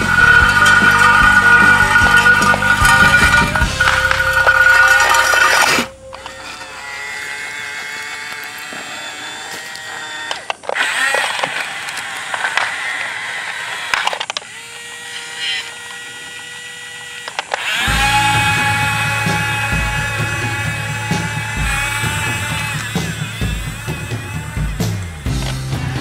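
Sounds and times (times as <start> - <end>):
toy electric gear motors whining: 0.0 - 26.0.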